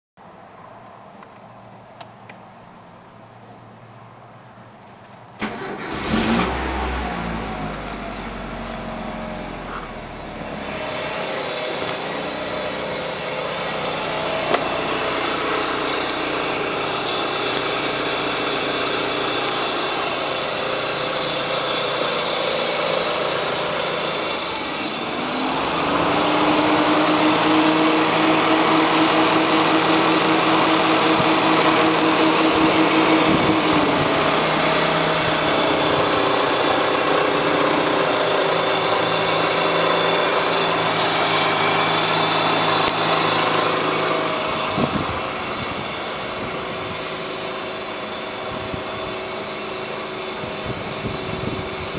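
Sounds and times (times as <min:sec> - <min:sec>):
car engine starting and idling: 0:04.6 - 0:51.9.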